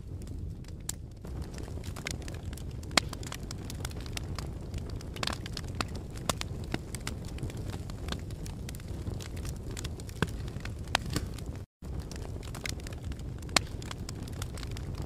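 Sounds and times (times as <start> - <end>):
loud fire snaps: 0.0 - 15.0
wood fire crackling: 0.0 - 15.0.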